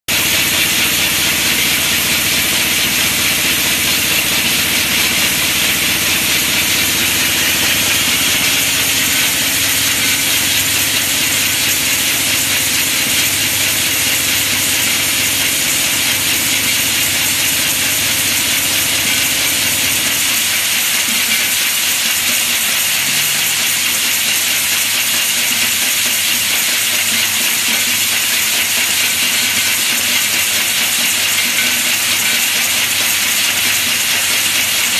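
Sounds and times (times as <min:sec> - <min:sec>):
loud steady machine hiss: 0:00.1 - 0:34.9.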